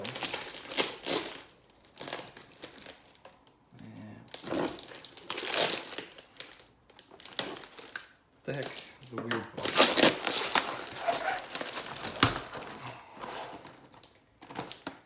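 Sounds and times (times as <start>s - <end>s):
packaging crinkling: 0.0s - 3.6s, 4.3s - 15.0s
wrapping tearing: 0.0s - 3.6s, 4.3s - 9.0s, 9.6s - 15.0s.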